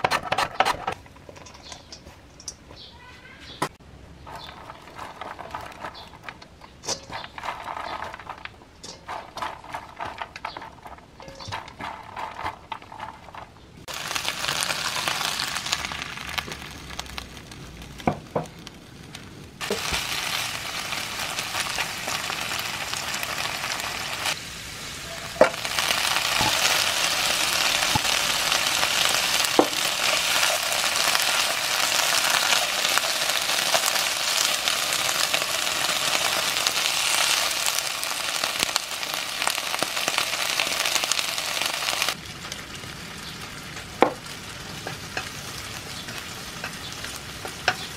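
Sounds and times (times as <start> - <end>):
vegetables sizzling in a wok: 4.1 - 47.9.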